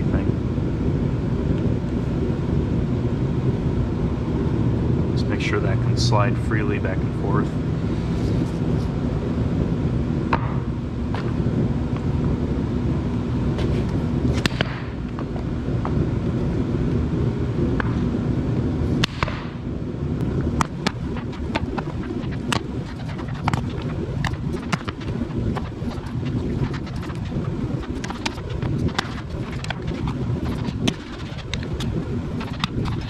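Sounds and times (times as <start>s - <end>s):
heater running rumble: 0.0s - 33.0s.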